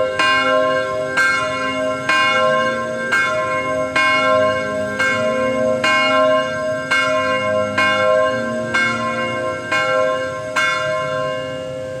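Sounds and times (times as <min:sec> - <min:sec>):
church bell tolling: 0:00.0 - 0:12.0.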